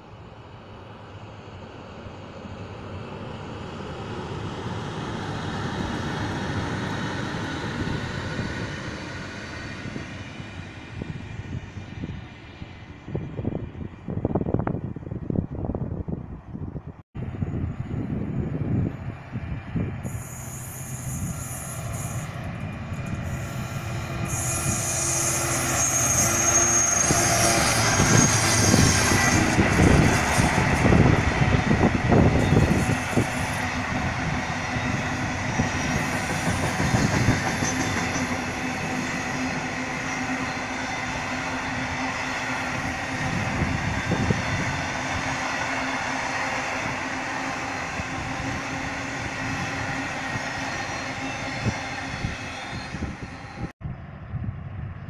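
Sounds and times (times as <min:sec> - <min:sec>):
freight train passing: 0:00.0 - 0:55.0.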